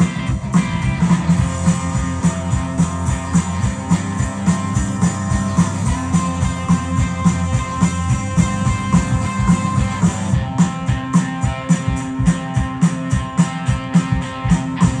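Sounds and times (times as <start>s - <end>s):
drum kit steady beat: 0.0s - 15.0s
electric guitars: 0.0s - 15.0s.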